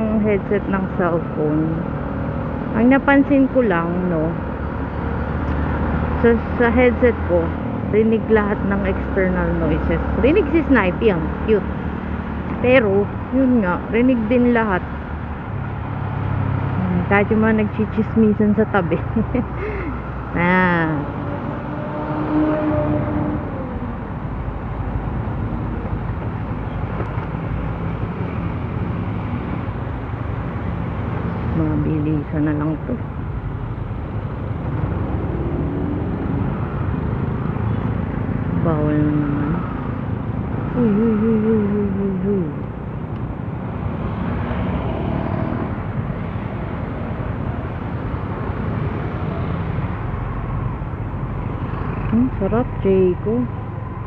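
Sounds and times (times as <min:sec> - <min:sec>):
road and traffic noise: 0:00.0 - 0:54.0.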